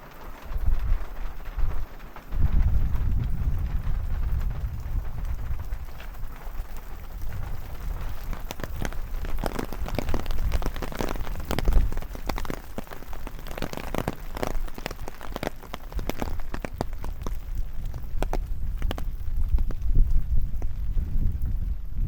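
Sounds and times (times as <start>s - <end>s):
steady low rumble: 0.0s - 12.3s, 15.9s - 22.0s
sharp water drips: 0.0s - 21.7s
rain falling in forest: 0.0s - 22.0s.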